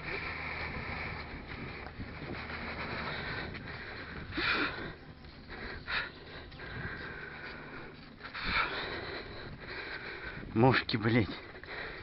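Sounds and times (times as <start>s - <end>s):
sharp breaths through the nose: 0.0s - 10.6s, 11.2s - 12.0s
bicycle riding noise: 0.0s - 12.0s.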